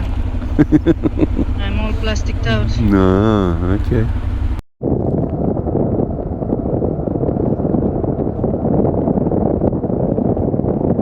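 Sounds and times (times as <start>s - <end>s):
motorcycle engine running: 0.0s - 10.8s
wind noise on microphone: 0.0s - 11.0s.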